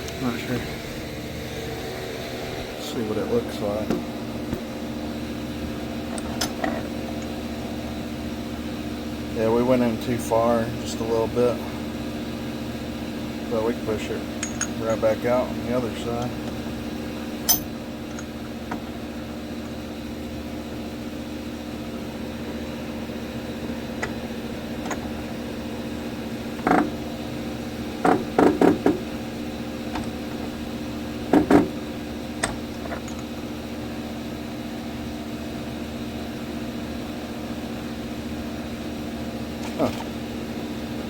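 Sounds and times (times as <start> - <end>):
machine hum: 0.0 - 41.0.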